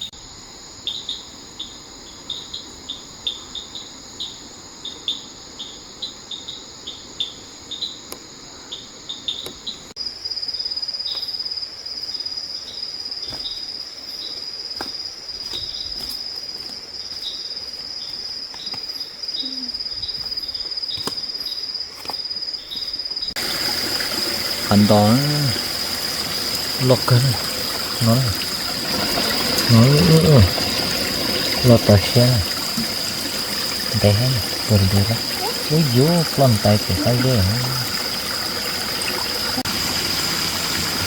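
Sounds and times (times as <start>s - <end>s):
crickets trilling: 0.0s - 41.0s
insect chirps: 0.0s - 41.0s.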